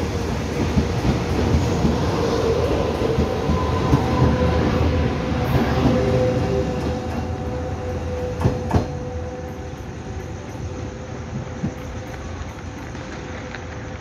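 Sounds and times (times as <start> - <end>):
electric train inverter whine: 0.0 - 14.0
train running rumble: 0.0 - 14.0.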